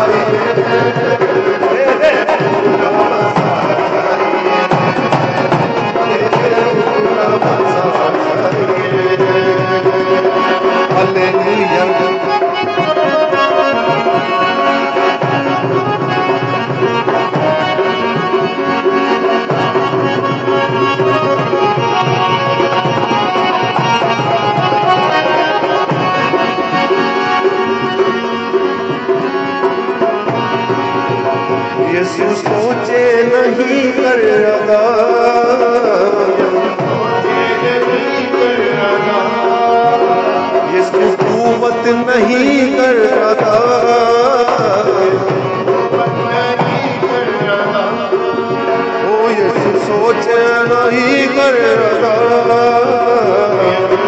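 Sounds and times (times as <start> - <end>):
hand drum rhythm: 0.0 - 54.0
sustained instrumental melody: 0.0 - 54.0.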